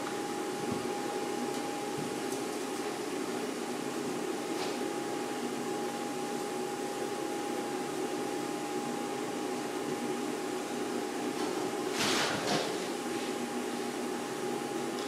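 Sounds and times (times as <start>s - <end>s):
constant machine whine: 0.0s - 15.0s
machine humming and whirring: 0.0s - 15.0s.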